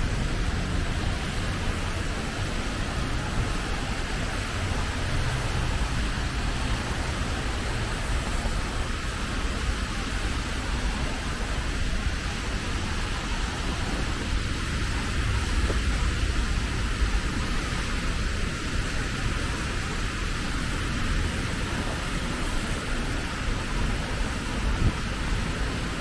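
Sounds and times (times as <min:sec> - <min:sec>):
rain: 0:00.0 - 0:26.0
traffic on wet road: 0:00.0 - 0:26.0.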